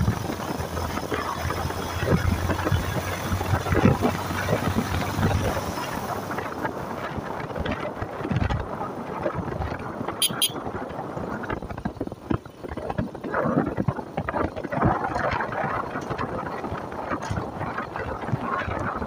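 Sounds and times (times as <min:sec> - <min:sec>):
motorcycle running: 0:00.0 - 0:19.0
wind rushing over microphone: 0:00.0 - 0:19.0.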